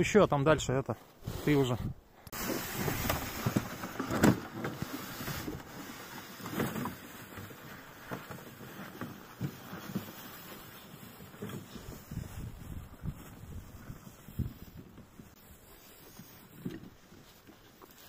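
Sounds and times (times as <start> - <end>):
sled scraping over snow: 1.2 - 18.0
footsteps crunching: 2.3 - 18.0.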